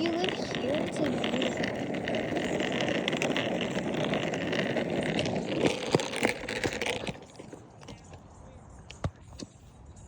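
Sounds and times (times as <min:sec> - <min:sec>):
scooter wheels rumbling rattle: 0:00.0 - 0:08.2.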